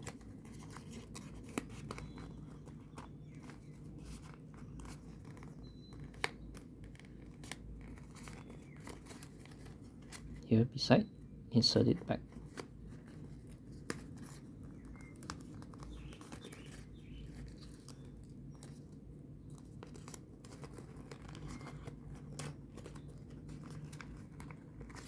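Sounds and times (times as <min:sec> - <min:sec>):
paper rustling and crinkling: 0:00.0 - 0:10.4, 0:12.2 - 0:25.0.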